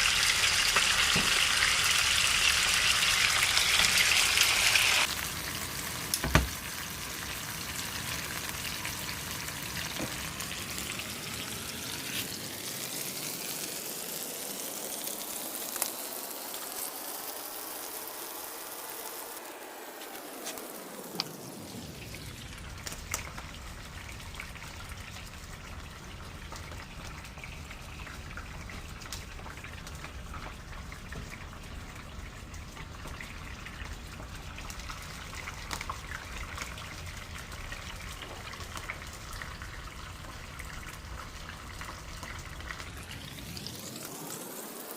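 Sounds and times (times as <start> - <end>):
meat sizzling in a frying pan: 0.0 - 44.9.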